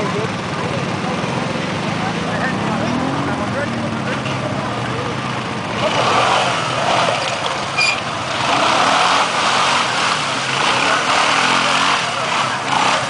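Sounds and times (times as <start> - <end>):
quad bike engines revving: 0.0 - 13.0.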